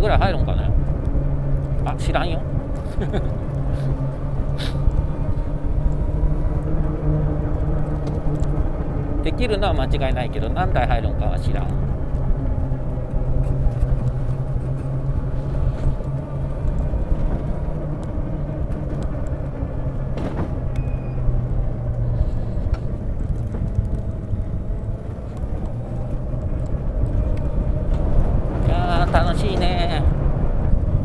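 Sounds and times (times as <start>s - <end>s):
low road rumble: 0.0s - 31.0s.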